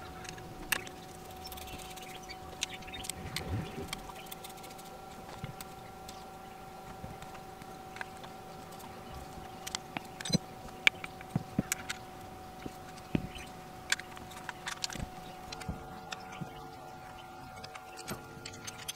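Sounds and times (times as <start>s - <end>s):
faint steady hum: 0.0s - 18.9s
light clicks and handling sounds: 0.0s - 18.9s.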